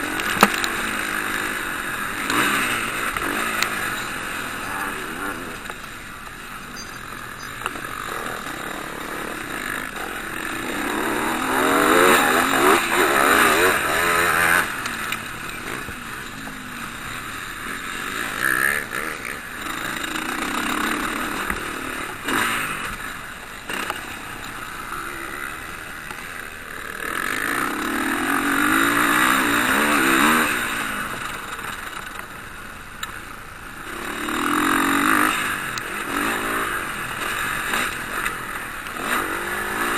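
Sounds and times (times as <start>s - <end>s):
motocross bikes revving past: 0.0s - 39.9s.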